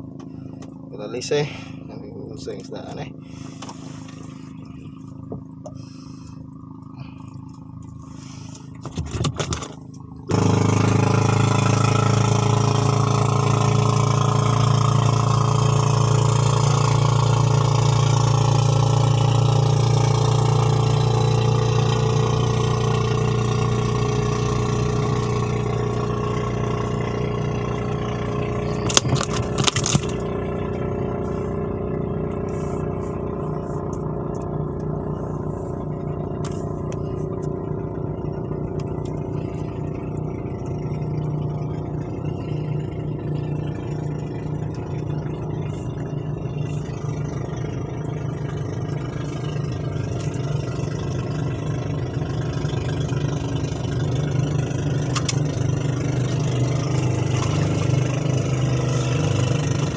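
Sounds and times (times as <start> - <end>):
small boat engine running: 0.0 - 59.9.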